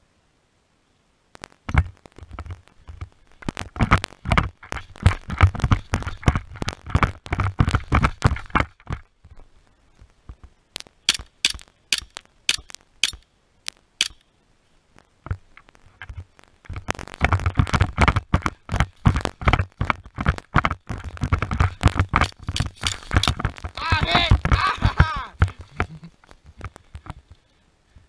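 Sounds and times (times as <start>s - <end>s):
sharp cracks: 1.3s - 9.1s, 10.0s - 14.4s, 15.0s - 27.3s.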